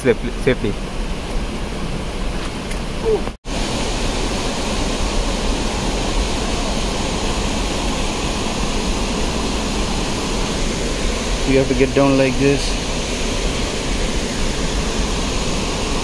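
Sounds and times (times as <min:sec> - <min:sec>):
stream water rushing: 0:00.7 - 0:16.0.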